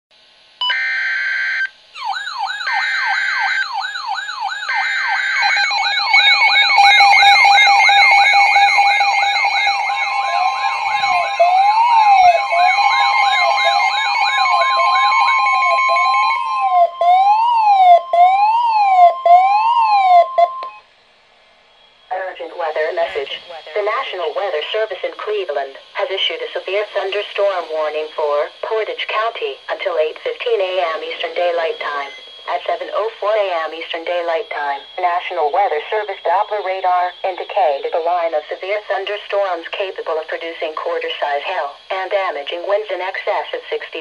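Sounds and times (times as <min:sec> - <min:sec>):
steady warning tone: 0:00.3 - 0:44.0
warbling siren alarms: 0:00.6 - 0:21.0, 0:21.7 - 0:42.0.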